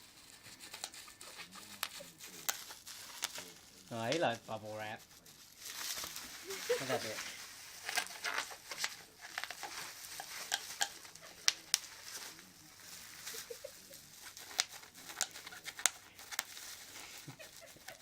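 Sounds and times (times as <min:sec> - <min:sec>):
bubble wrap crinkling: 0:00.0 - 0:18.0
bubble wrap popping: 0:00.0 - 0:18.0.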